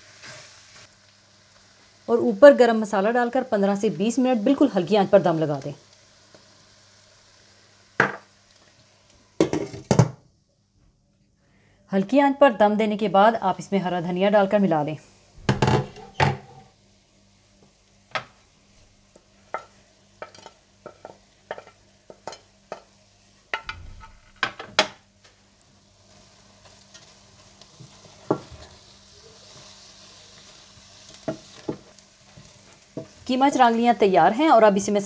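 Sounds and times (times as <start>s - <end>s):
faint sizzle: 0.0s - 35.0s.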